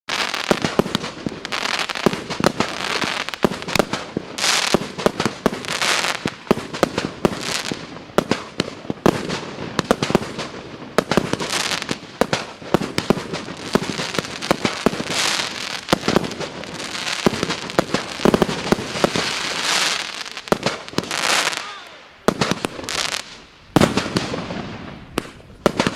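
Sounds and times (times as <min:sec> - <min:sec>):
firework bangs: 0:00.1 - 0:25.9
firework hiss: 0:00.1 - 0:25.9.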